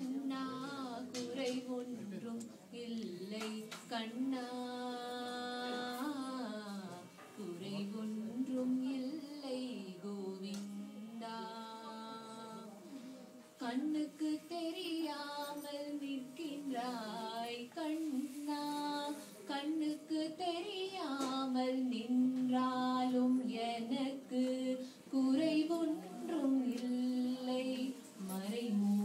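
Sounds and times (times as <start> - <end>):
woman and girl singing: 0.0 - 12.8, 13.5 - 29.0.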